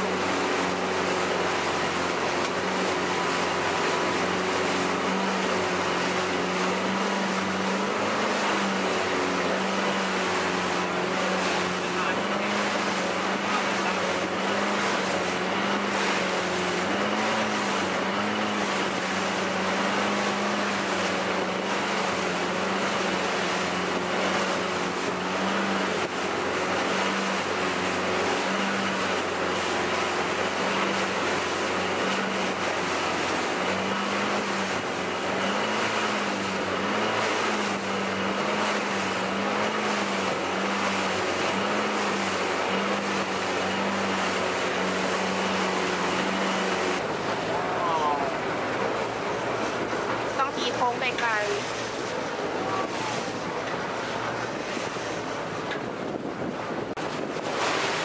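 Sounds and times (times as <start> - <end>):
boat engine droning: 0.0 - 58.0
water rushing along hull: 0.0 - 58.0
wind: 0.0 - 58.0.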